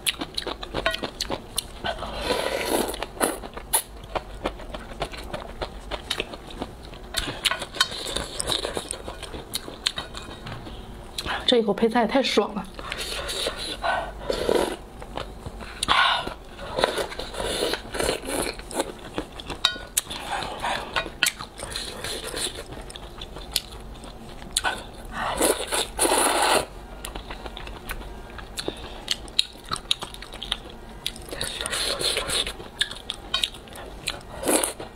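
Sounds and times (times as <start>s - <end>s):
chewing and slurping noodles: 0.0s - 11.4s, 12.8s - 34.9s.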